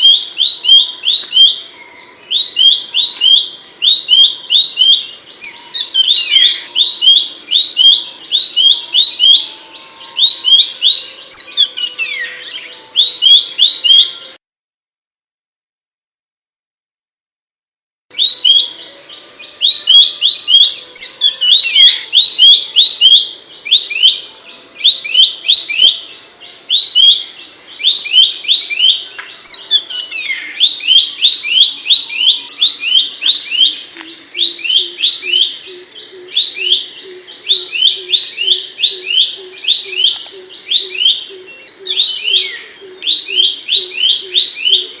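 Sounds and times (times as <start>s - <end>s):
bird singing sharp notes: 0.0s - 14.4s, 18.1s - 45.0s.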